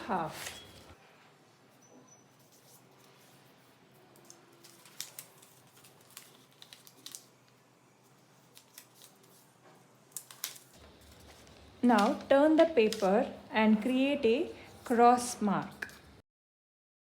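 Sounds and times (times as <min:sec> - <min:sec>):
paper crackling and rustling: 0:00.0 - 0:01.0, 0:02.4 - 0:16.2.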